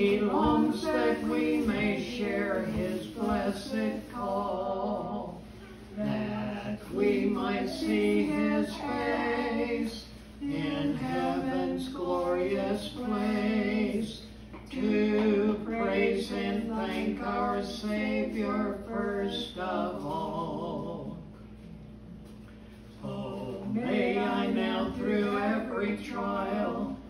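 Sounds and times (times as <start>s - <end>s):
woman and man singing a hymn: 0.0s - 21.3s, 23.0s - 27.0s.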